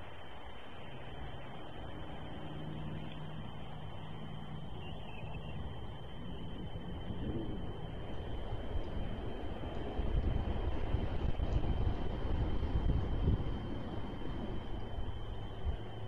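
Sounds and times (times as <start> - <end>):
distant engine drone: 0.0 - 16.0
faint high whine: 0.0 - 16.0.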